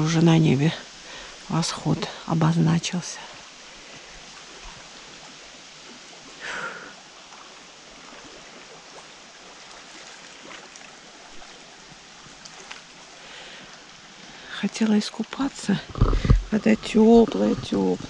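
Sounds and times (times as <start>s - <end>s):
small waves lapping on shore: 0.0s - 18.0s.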